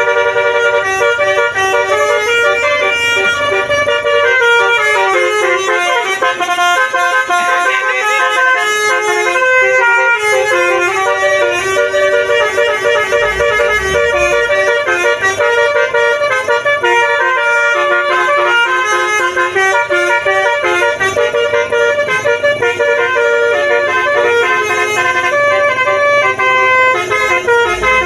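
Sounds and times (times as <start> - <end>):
musical air horn playing a tune: 0.0 - 28.0.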